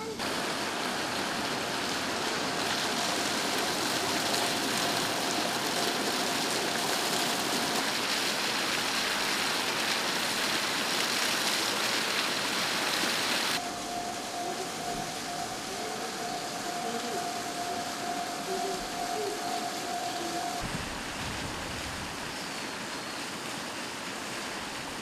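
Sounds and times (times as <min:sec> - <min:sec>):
faint steady hum: 0:00.0 - 0:25.0
fountain water splashing: 0:00.0 - 0:25.0.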